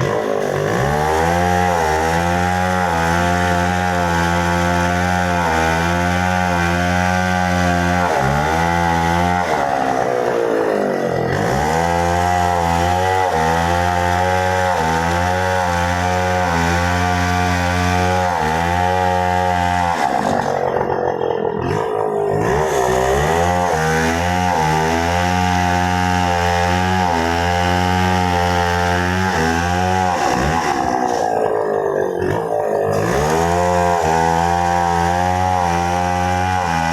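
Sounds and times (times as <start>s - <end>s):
chainsaw cutting wood: 0.0s - 36.9s.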